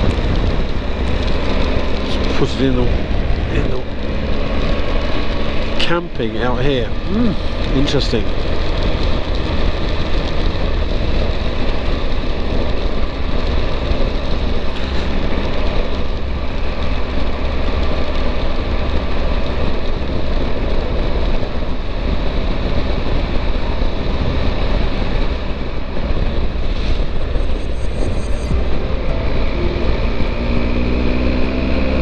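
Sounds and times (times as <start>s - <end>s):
wind noise on microphone: 0.0s - 5.8s, 6.9s - 32.0s
motorcycle engine cruising: 0.0s - 32.0s
tyres on wet road: 0.0s - 32.0s.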